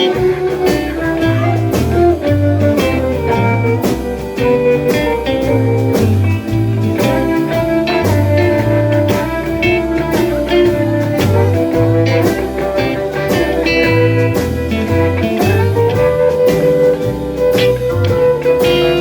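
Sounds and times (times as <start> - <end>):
drum hits: 0.0 - 19.0
guitar lines: 0.0 - 19.0
steady bass: 0.0 - 19.0.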